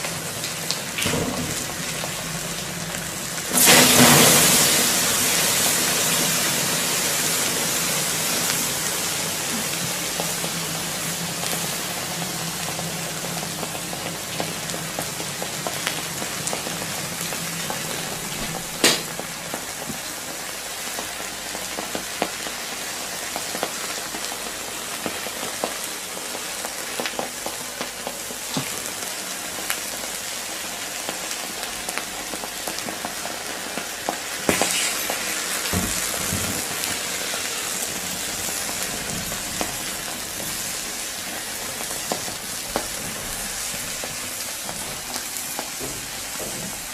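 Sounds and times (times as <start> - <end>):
lava sizzling on laptop: 2.7 - 28.4, 29.0 - 46.9.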